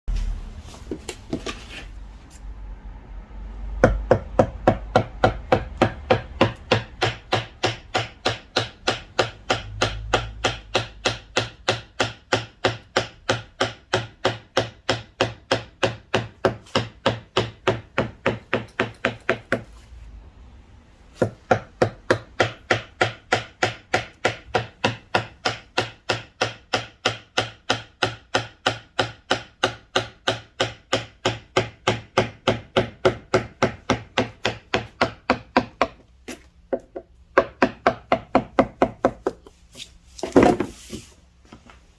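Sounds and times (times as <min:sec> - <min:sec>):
mallet striking chisel into wood: 0:03.8 - 0:19.7, 0:21.2 - 0:39.5.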